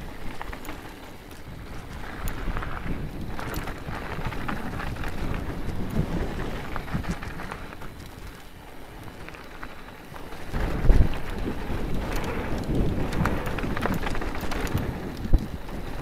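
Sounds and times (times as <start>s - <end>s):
bike rattling and clicking: 0.0s - 16.0s
tyres crunching over gravel: 0.0s - 16.0s.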